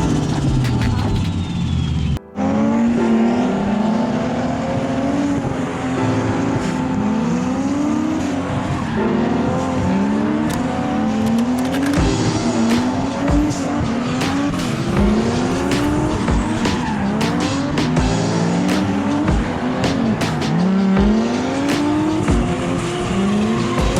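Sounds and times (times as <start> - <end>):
car engine revving hard: 0.0 - 23.9.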